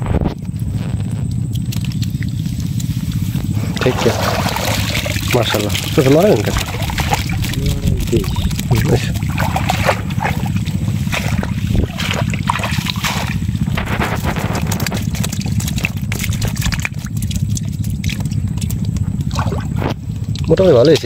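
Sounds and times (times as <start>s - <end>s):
steady low rumble: 0.0s - 21.0s
water trickling and splashing: 1.6s - 21.0s.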